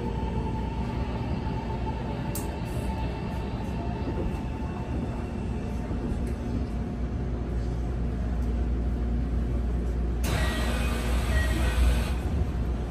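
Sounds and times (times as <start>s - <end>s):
electric train interior rumble: 0.0s - 12.9s.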